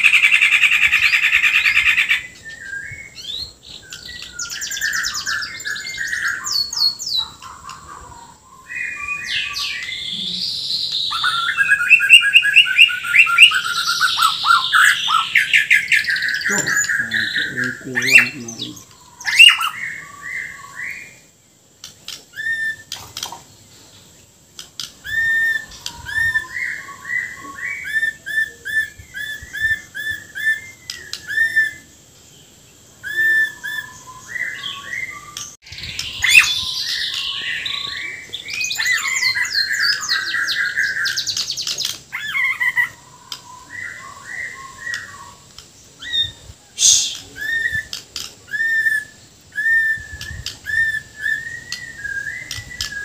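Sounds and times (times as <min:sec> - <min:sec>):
harsh bird notes and trills: 0:00.0 - 0:21.3, 0:24.8 - 0:53.0
songbird whistled song: 0:00.0 - 0:53.0.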